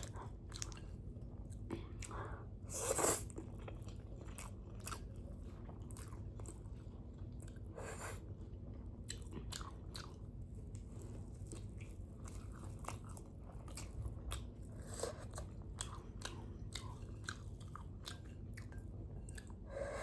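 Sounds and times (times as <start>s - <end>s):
chewing with wet mouth clicks: 0.0s - 7.7s, 8.5s - 19.6s.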